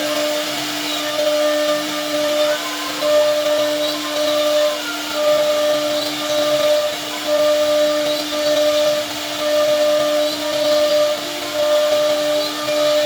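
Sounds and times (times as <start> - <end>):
router bit cutting wood: 0.0 - 13.0
router spindle whining: 0.0 - 13.0.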